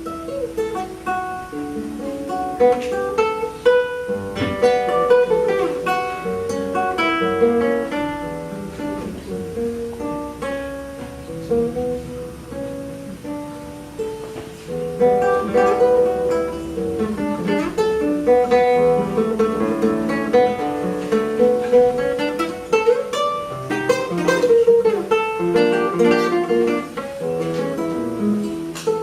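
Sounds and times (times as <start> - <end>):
solo classical guitar: 0.0 - 29.0.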